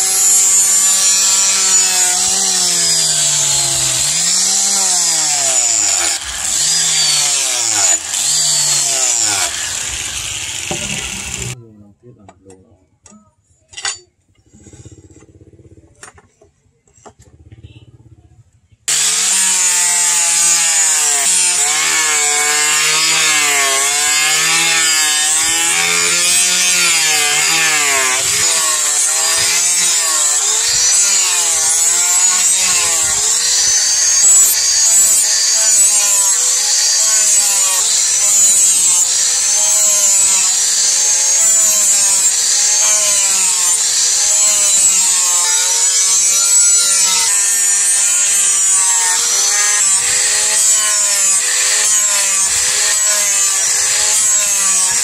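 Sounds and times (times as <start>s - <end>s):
abrasive grinding on steel: 0.0s - 11.6s, 18.9s - 55.0s
angle grinder motor whine: 0.0s - 11.6s, 18.9s - 55.0s.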